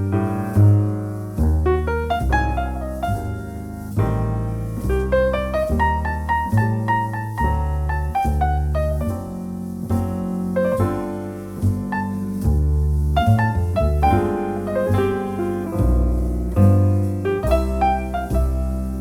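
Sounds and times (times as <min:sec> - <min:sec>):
jazz piano ballad: 0:00.0 - 0:19.0.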